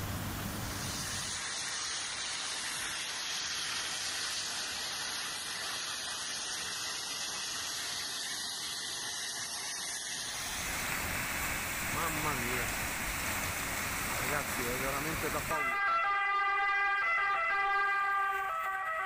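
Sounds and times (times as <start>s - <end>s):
floodwater rushing: 0.2s - 15.8s.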